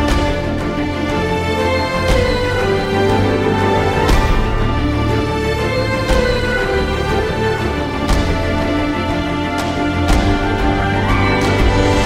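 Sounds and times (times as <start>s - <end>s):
background music chords: 0.0s - 12.0s.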